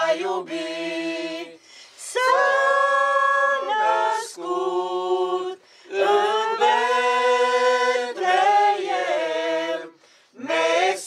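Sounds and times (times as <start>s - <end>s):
carolers singing a cappella: 0.0s - 11.0s.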